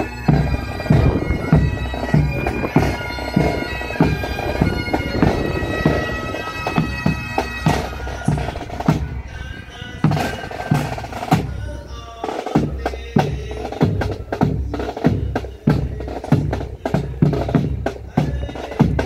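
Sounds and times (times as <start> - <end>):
snare drums rattling and rolling: 0.0 - 9.2, 10.0 - 19.0
bagpipes: 0.0 - 11.6, 12.2 - 19.0.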